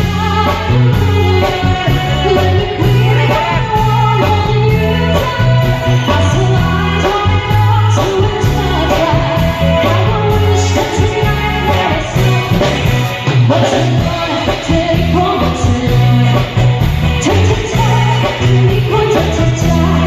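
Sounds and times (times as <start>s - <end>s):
live rock band playing: 0.0s - 20.0s
person singing: 0.0s - 20.0s.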